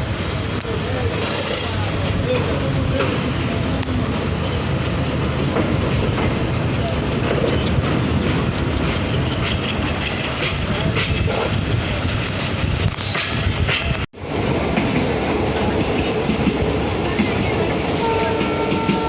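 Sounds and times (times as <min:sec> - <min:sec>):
train rumbling along track: 0:00.0 - 0:19.0
wheels clicking over rail joints: 0:00.4 - 0:19.0.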